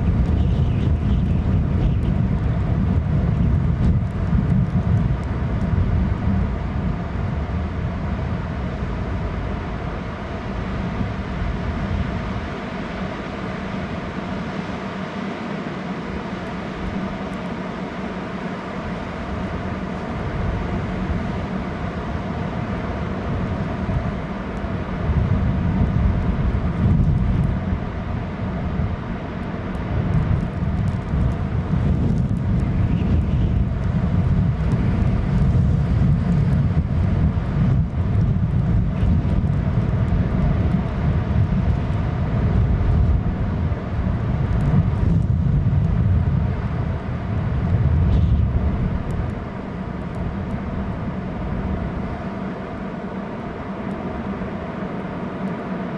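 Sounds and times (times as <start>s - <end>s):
wind buffeting microphone: 0.0s - 15.1s, 18.6s - 54.5s.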